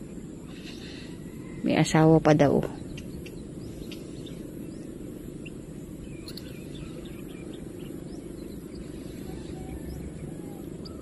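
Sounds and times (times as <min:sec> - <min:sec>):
faint bird chirps: 0:00.0 - 0:11.0
low background rumble: 0:00.0 - 0:11.0.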